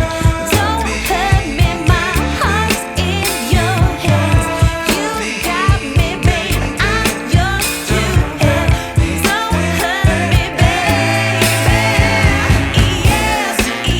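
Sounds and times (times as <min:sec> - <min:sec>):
pop song with female singer: 0:00.0 - 0:13.9.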